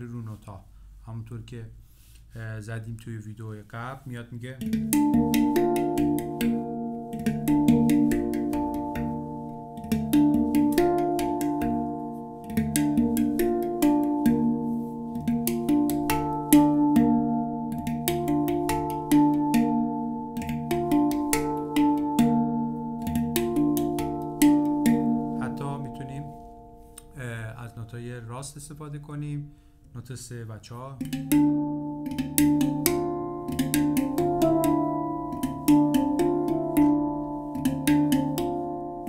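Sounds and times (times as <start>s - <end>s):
handpan notes ringing: 4.6s - 28.2s, 31.0s - 39.0s.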